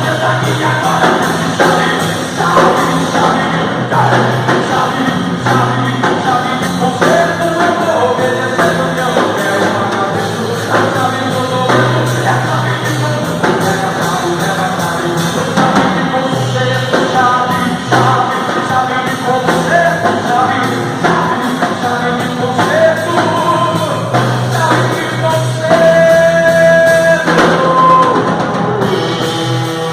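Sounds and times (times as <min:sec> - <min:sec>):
band accompaniment: 0:00.0 - 0:29.9
person singing: 0:00.0 - 0:29.9.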